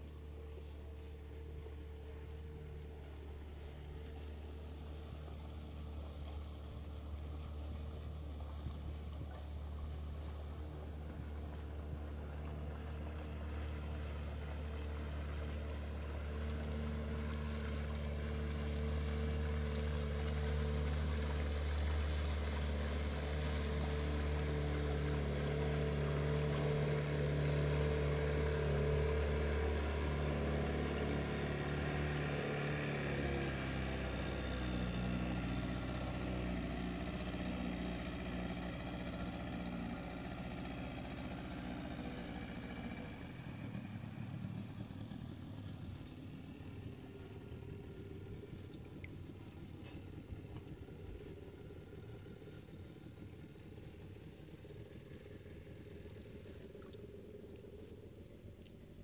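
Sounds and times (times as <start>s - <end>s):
outboard motor humming: 0.0s - 59.0s.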